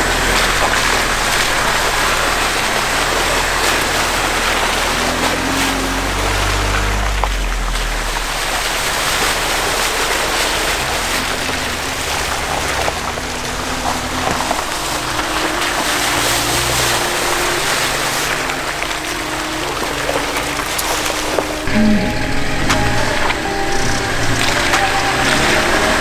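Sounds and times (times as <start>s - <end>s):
tyres splashing through water: 0.0s - 26.0s
vehicle engine: 0.0s - 26.0s.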